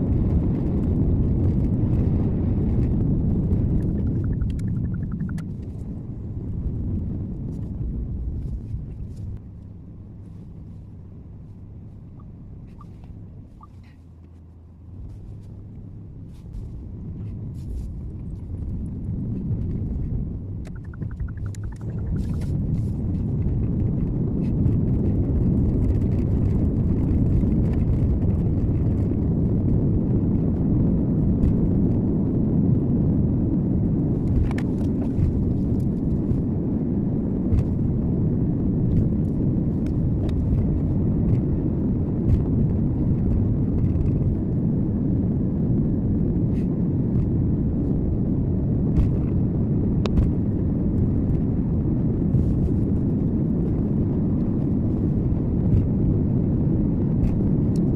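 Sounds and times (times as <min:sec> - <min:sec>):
road and engine noise in car: 0:00.0 - 0:57.9.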